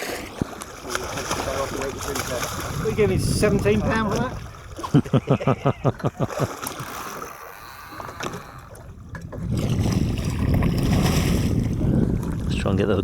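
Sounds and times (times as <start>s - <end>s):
water sloshing: 0.0s - 13.0s
wind noise: 0.4s - 6.2s, 7.6s - 13.0s.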